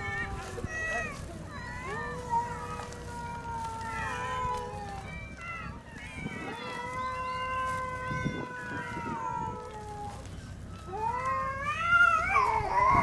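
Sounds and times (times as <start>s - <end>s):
cats meowing: 0.0s - 13.0s.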